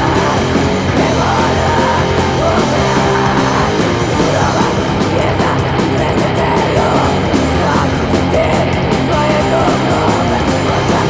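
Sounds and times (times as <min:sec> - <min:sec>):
punk band music from vinyl: 0:00.0 - 0:11.0.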